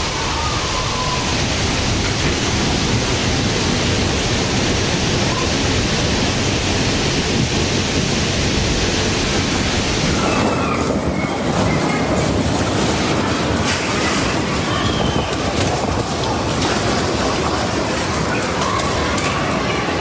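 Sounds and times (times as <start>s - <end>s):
heavy rain: 0.0s - 20.0s
strong wind: 0.0s - 20.0s.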